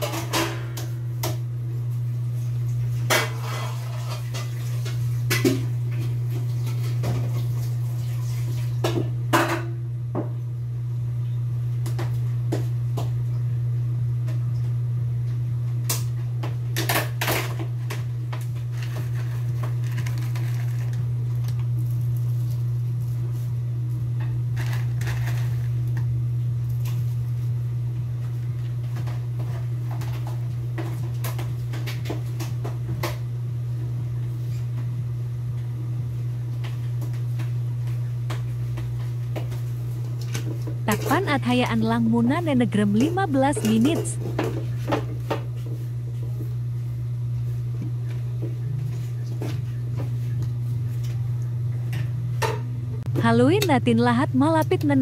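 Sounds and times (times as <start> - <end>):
stove humming: 0.0 - 55.0.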